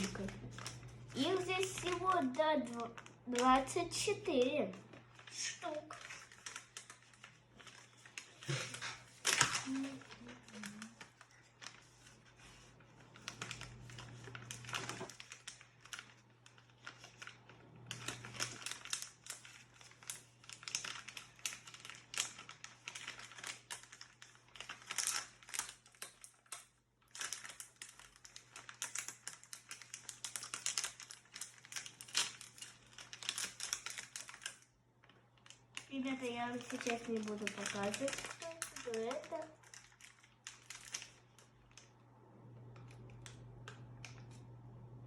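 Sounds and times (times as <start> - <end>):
plastic wrapper crinkling: 0.0 - 44.7.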